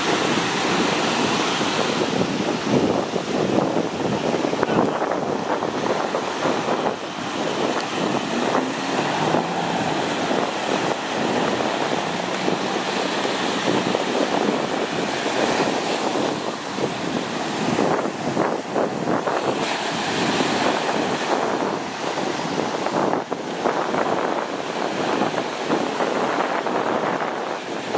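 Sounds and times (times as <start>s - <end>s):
jet ski engine running: 0.0s - 27.9s
surf breaking and washing: 0.0s - 27.9s
wind buffeting microphone: 0.0s - 27.9s.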